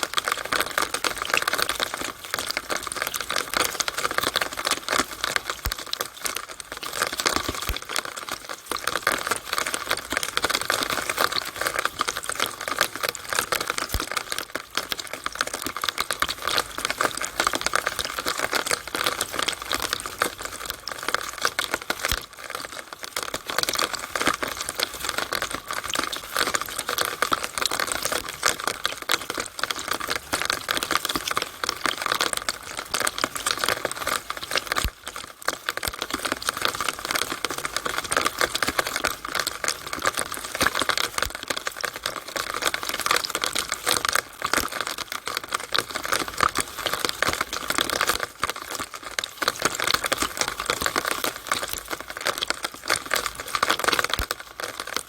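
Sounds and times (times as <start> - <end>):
rainwater dripping in downspout: 0.0 - 55.0.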